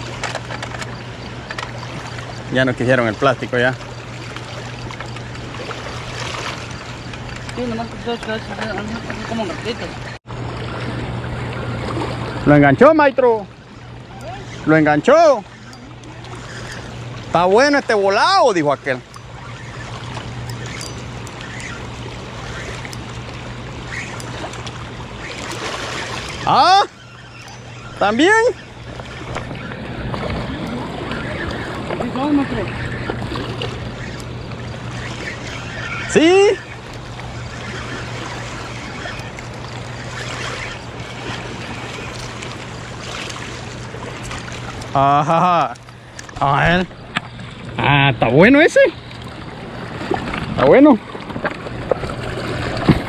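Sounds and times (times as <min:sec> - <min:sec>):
steady low hum: 0:00.0 - 0:53.0
river water rushing: 0:00.9 - 0:08.0, 0:09.0 - 0:45.4.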